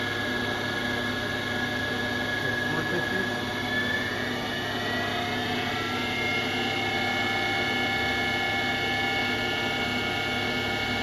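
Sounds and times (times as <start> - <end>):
grinding machine whine: 0.0 - 11.0.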